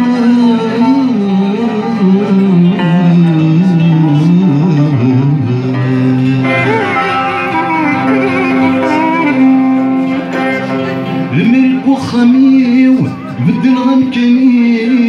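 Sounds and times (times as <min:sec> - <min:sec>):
fretted lute: 0:00.0 - 0:15.0
guitar: 0:00.0 - 0:15.0
man singing: 0:00.0 - 0:15.0.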